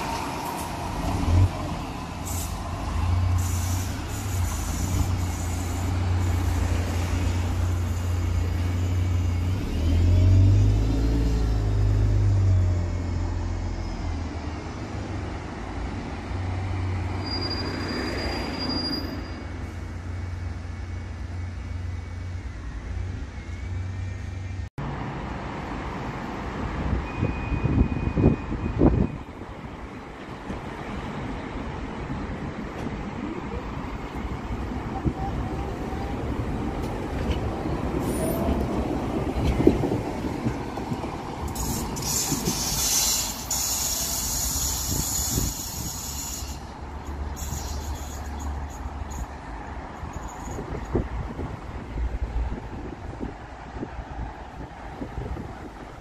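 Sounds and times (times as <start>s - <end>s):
road traffic rumble: 0.0s - 56.0s
tram passing: 0.0s - 56.0s.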